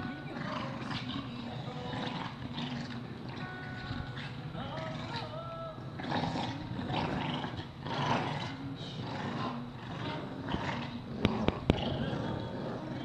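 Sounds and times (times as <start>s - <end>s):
dogs growling: 0.0s - 13.0s.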